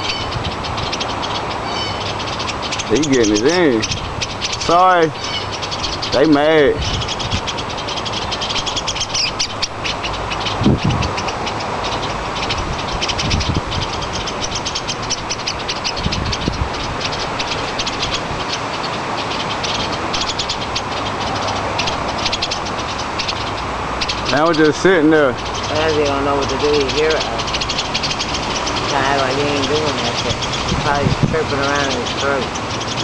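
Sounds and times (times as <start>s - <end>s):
songbirds chattering alarm calls: 0.0s - 33.0s.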